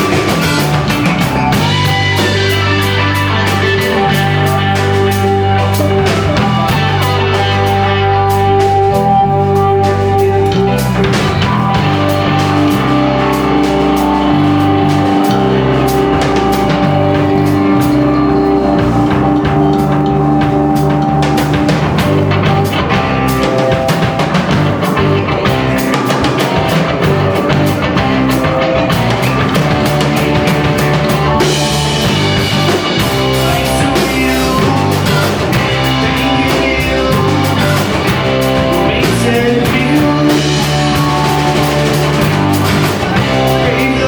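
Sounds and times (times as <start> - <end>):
drum kit with cymbals: 0.0 - 44.0
electric guitar: 0.0 - 44.0
rock band playing live: 0.0 - 44.0.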